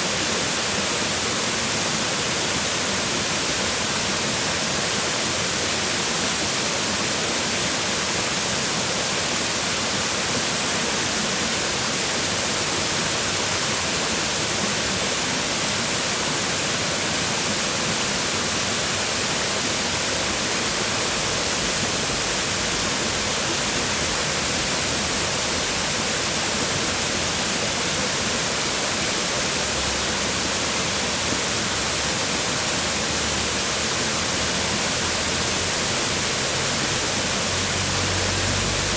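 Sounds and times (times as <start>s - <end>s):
waterfall splashing on rocks: 0.0s - 38.9s.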